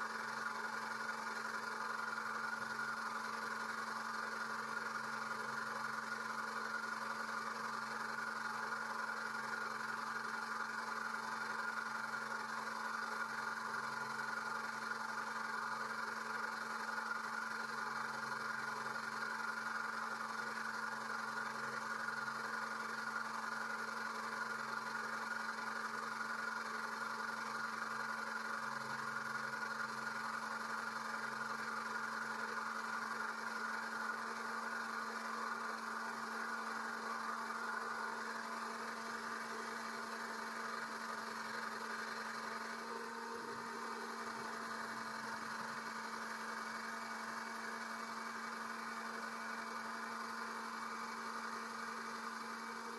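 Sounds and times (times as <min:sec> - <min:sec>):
electric oil pump humming: 0:00.0 - 0:52.9.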